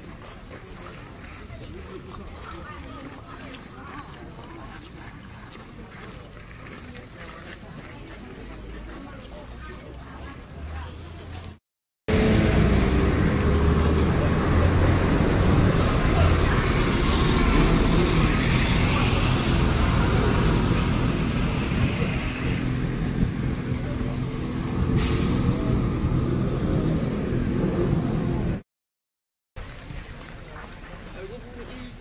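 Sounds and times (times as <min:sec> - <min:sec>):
cars and bus passing: 0:00.0 - 0:28.6.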